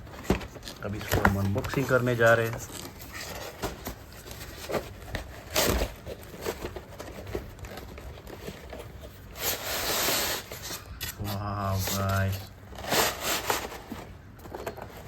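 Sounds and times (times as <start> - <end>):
crinkling plastic and cardboard: 0.0 - 15.0.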